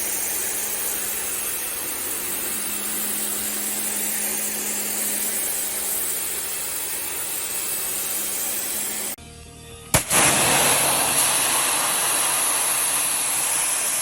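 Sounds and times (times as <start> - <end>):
pressure washer spraying: 0.0 - 9.2, 10.0 - 14.0.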